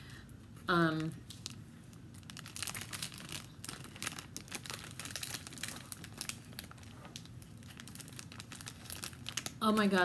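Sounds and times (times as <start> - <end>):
plastic packet crinkling: 1.0 - 10.0.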